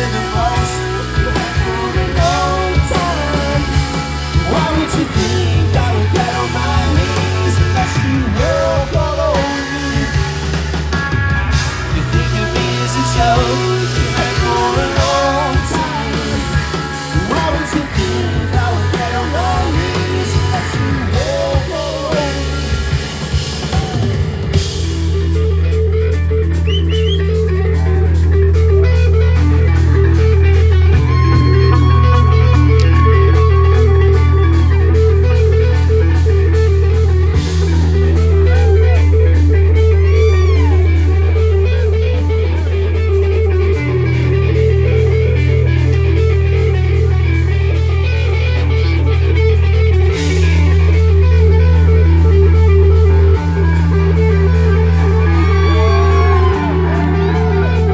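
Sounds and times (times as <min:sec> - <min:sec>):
electric guitar fast repeating figure: 0:00.0 - 0:57.9
held bass notes: 0:00.0 - 0:57.9.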